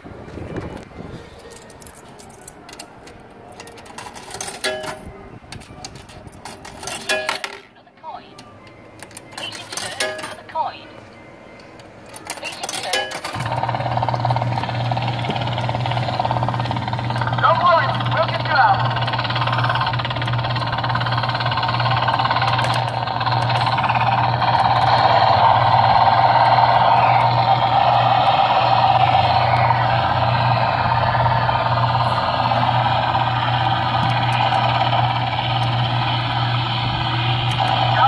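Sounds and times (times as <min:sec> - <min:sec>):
kiddie ride whirring hum: 0:00.0 - 0:38.0.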